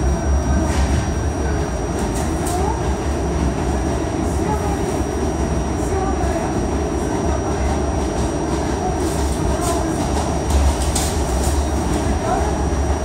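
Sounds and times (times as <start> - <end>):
subway car wheels rumbling on rail: 0.0 - 13.0.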